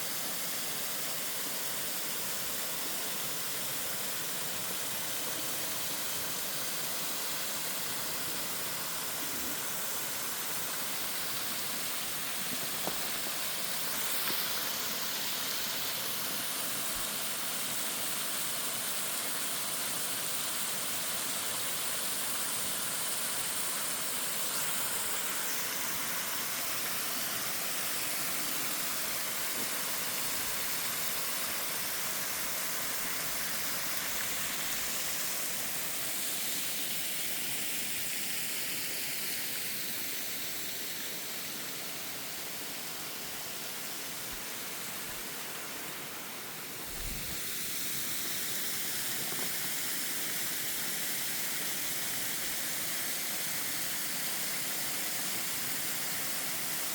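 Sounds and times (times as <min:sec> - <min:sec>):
waterfall hissing: 0:00.0 - 0:56.9.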